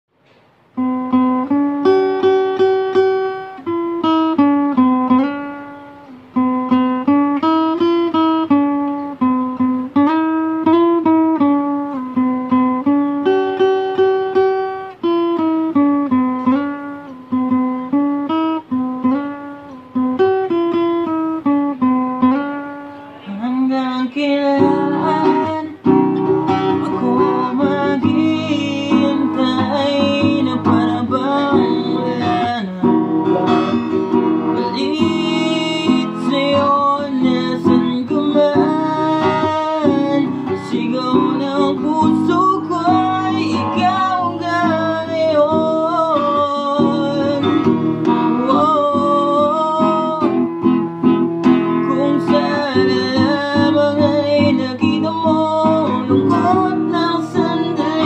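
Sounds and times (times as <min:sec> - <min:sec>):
acoustic guitar playing: 0:00.1 - 0:58.0.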